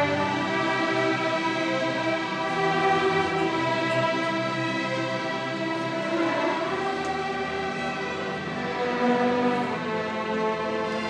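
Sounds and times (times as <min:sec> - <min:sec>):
string orchestra sustained chords: 0:00.0 - 0:11.0.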